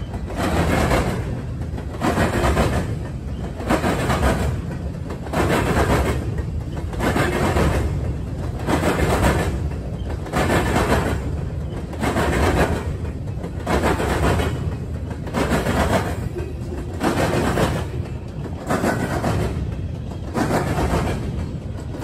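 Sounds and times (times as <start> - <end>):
low rumble of moving train: 0.0 - 22.0
train wheels clattering bangs: 0.0 - 22.0.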